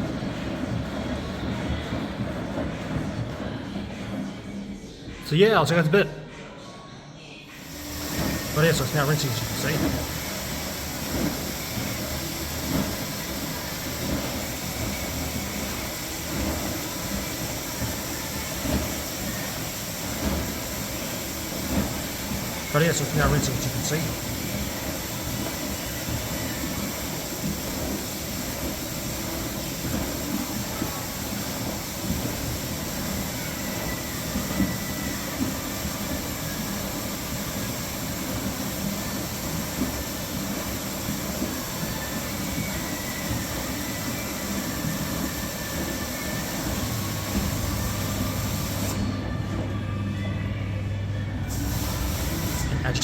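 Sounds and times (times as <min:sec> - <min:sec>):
washing machine rushing: 0:00.0 - 0:05.9, 0:07.5 - 0:53.0.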